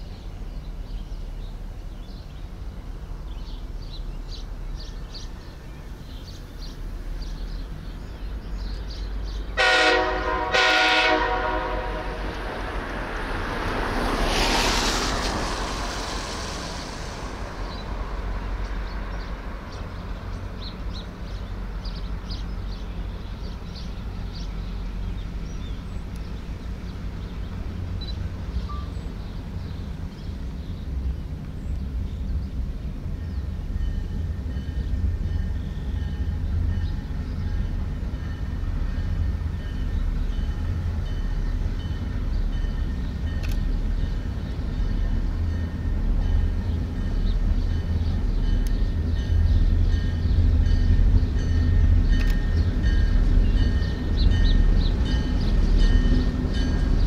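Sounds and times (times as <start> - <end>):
approaching train rumble: 0.0 - 57.0.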